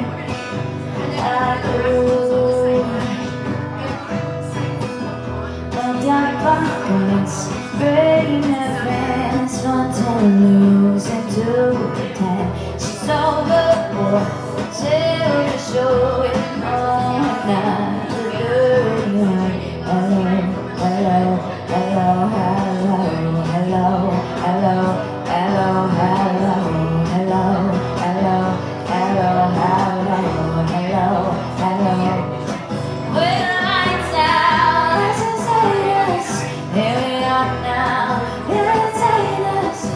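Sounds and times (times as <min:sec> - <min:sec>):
acoustic guitar country song: 0:00.0 - 0:39.9
person singing: 0:00.0 - 0:39.9.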